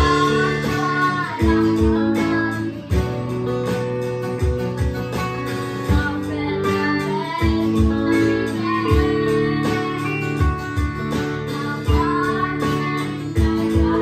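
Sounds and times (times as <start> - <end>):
child singing: 0.0 - 3.4, 5.2 - 14.0
acoustic guitar: 0.0 - 14.0
electric guitar: 0.0 - 14.0
keyboard: 0.0 - 14.0.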